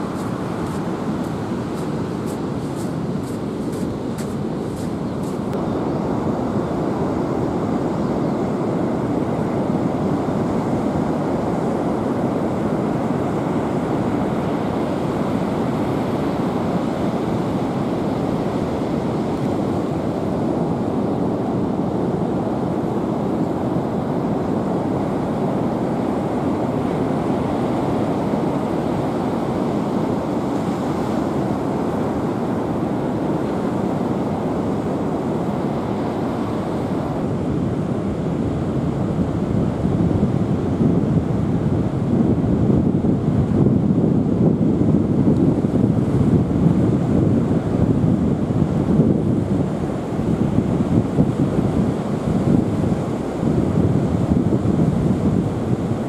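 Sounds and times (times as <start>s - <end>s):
ocean surf on shore: 0.0s - 56.0s
wind on microphone: 0.0s - 56.0s.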